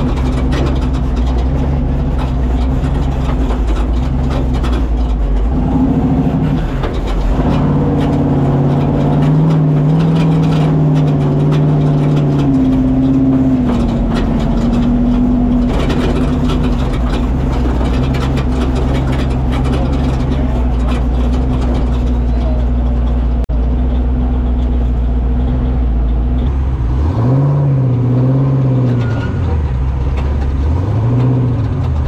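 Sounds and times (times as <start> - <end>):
rattling: 0.0 - 32.0
truck engine running: 0.0 - 32.0
tyre noise on rough ground: 0.0 - 32.0.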